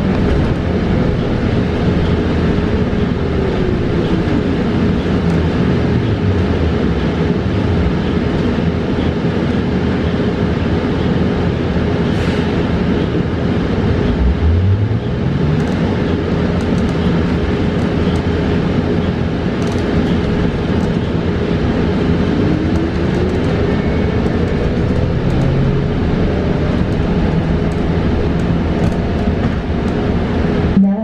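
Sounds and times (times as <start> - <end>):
constant hum: 0.0 - 31.0
road and tyre rumble: 0.0 - 31.0.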